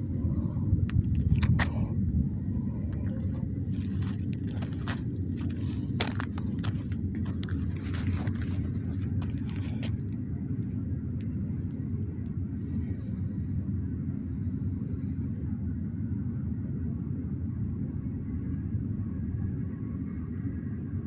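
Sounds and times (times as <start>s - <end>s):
distant freight train rolling: 0.0s - 21.0s.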